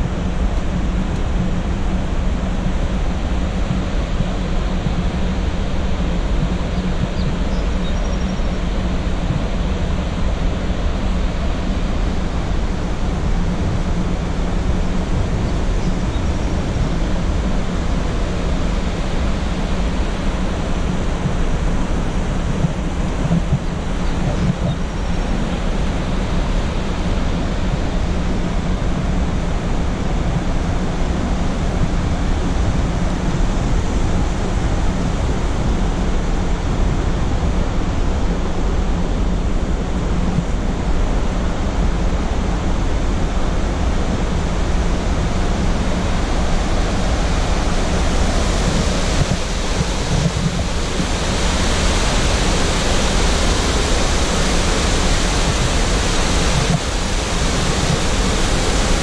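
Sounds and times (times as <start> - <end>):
rushing rapids and waterfall: 0.0 - 59.0.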